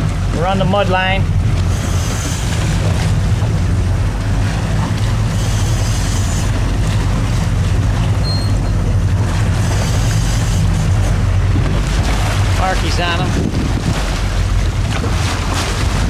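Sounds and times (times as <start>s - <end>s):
boat engine low drone: 0.0s - 16.0s
water noise: 0.0s - 16.0s
wind: 0.0s - 16.0s.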